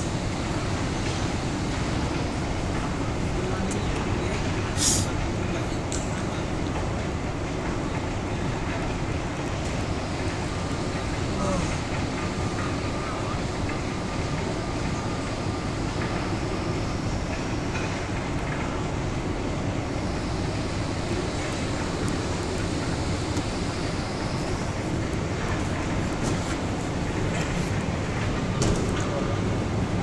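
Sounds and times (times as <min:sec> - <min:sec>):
factory machinery noise: 0:00.0 - 0:30.0.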